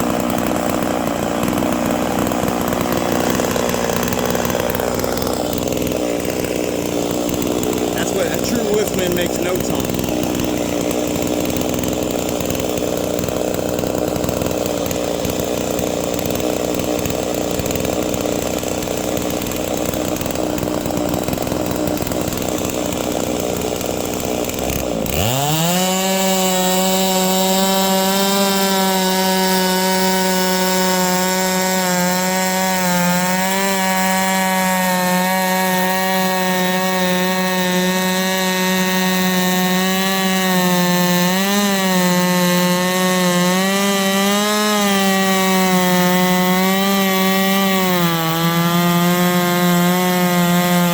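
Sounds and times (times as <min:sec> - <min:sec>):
chainsaw cutting log: 0:00.0 - 0:50.9.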